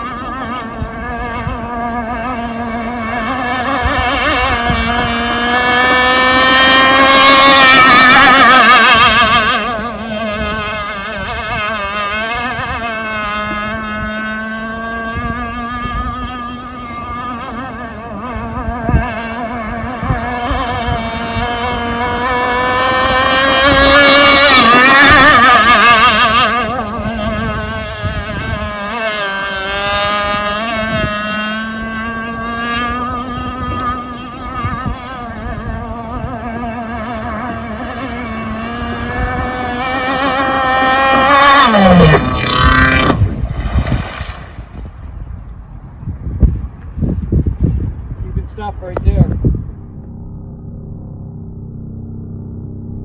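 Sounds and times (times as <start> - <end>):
rc boat motor whine: 0.0 - 53.0.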